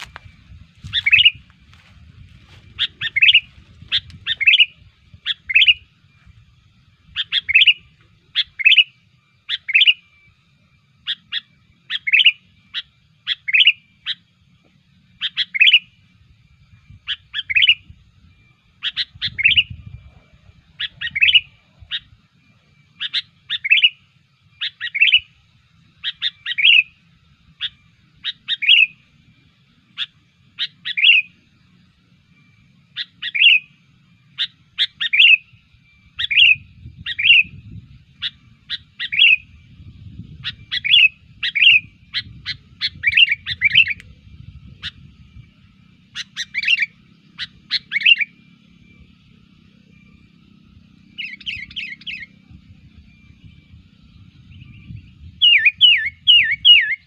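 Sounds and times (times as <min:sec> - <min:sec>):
bulbul calling: 0:00.0 - 0:10.4, 0:11.0 - 0:57.0.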